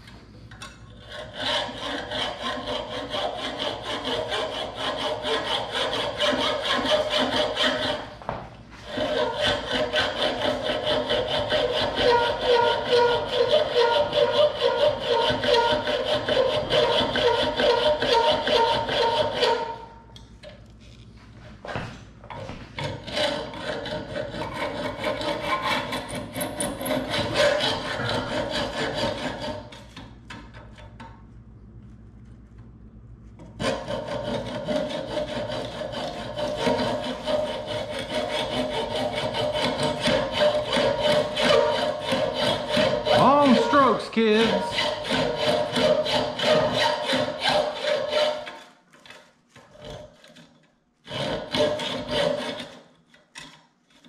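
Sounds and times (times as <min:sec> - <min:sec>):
hacksaw sawing: 0:01.0 - 0:08.2, 0:08.8 - 0:19.9, 0:22.8 - 0:30.1, 0:33.5 - 0:54.0.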